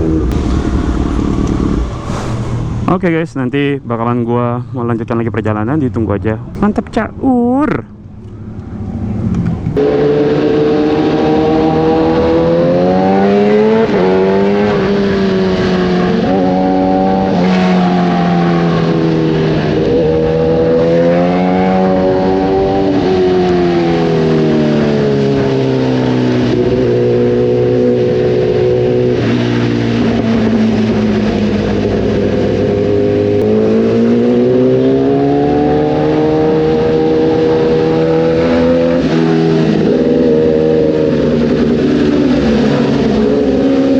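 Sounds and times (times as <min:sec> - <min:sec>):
motorcycle engine accelerating: 0:00.0 - 0:03.2, 0:08.2 - 0:43.9.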